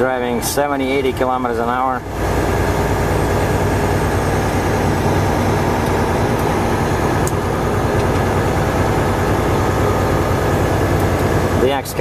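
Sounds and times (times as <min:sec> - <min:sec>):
road noise: 0:00.0 - 0:12.0
truck engine drone: 0:00.0 - 0:12.0.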